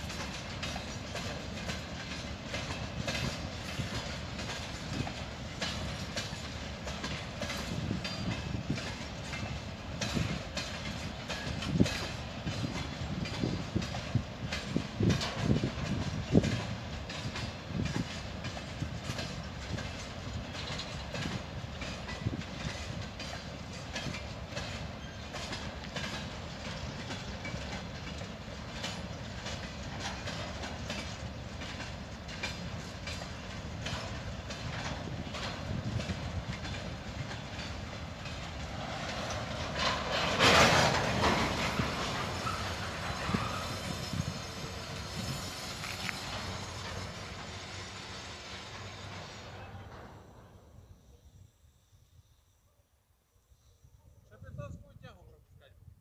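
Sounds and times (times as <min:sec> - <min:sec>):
wheels clacking over rail joints: 0:00.0 - 0:50.6
freight train wheels rumbling: 0:00.0 - 0:52.1.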